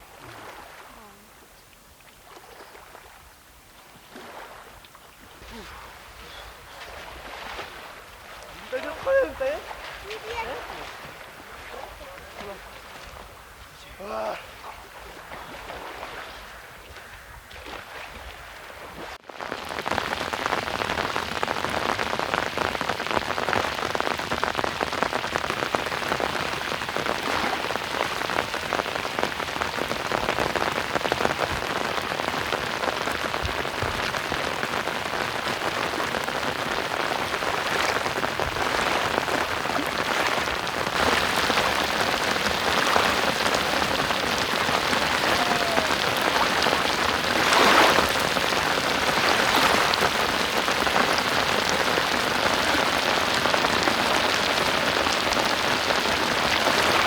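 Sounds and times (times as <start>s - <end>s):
steady rain falling: 5.4s - 14.5s, 19.2s - 57.0s.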